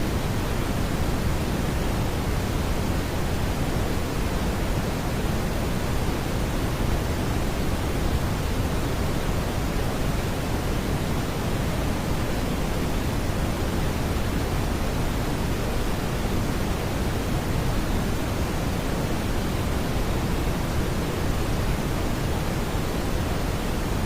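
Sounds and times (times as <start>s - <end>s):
low brown noise hiss: 0.0s - 24.0s.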